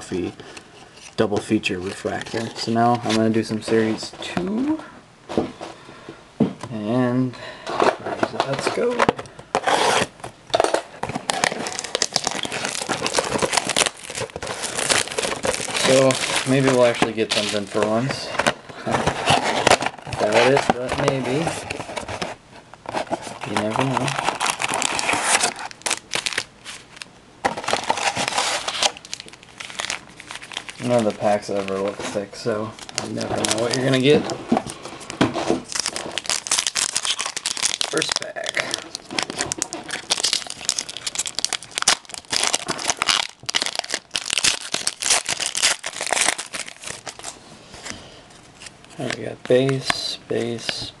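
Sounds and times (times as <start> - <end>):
plastic packaging crinkling: 8.2 - 22.2, 22.9 - 50.8.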